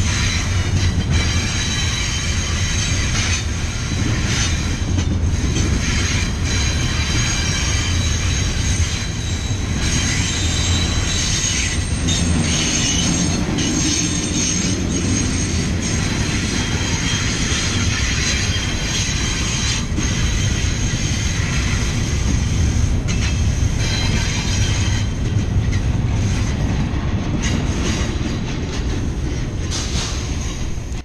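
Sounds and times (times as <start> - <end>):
train wheels rumbling on rail: 0.0 - 31.0
wheels squealing against rails: 0.0 - 31.0.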